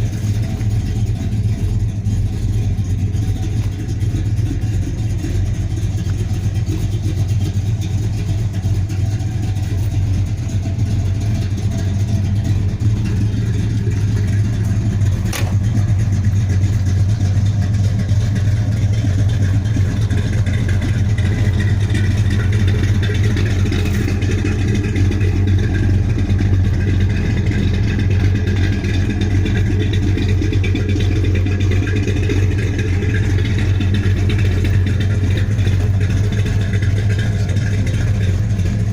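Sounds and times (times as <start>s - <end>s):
car engine running steadily: 0.0s - 38.9s.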